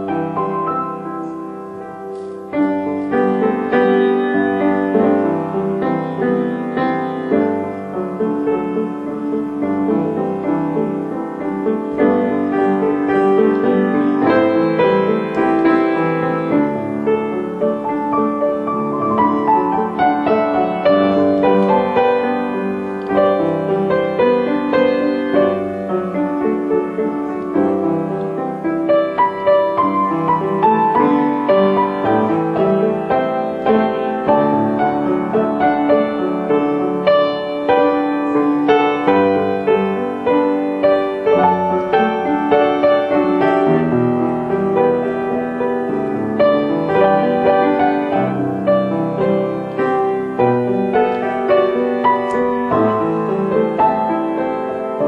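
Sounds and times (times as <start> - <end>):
gentle piano music: 0.0 - 55.0.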